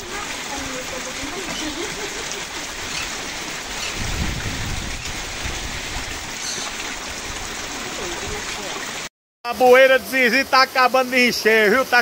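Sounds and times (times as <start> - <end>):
heavy rain falling: 0.0 - 12.0
rainwater splashing into plastic tank: 0.0 - 12.0.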